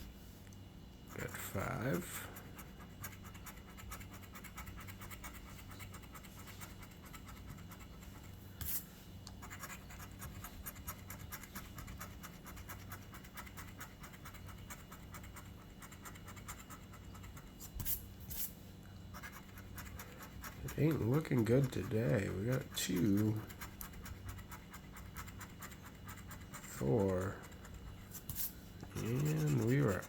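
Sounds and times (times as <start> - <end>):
lottery ticket being scratched: 1.1 - 18.5, 19.2 - 30.0.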